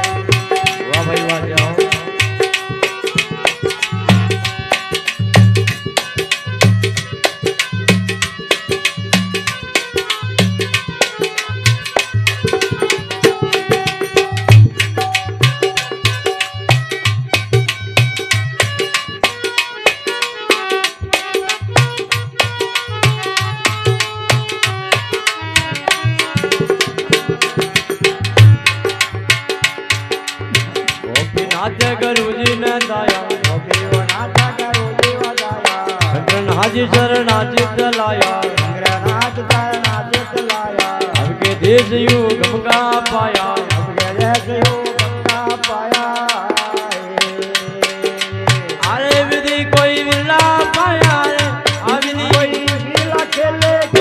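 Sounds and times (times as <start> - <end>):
hand drums rhythm: 0.0 - 54.0
held melodic tones: 0.0 - 54.0.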